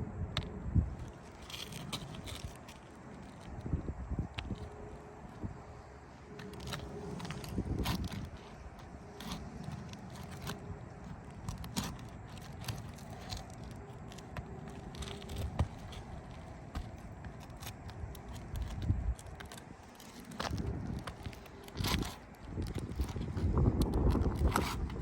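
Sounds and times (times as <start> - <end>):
tool scraping roof shingles: 1.0 - 3.6, 4.4 - 25.0.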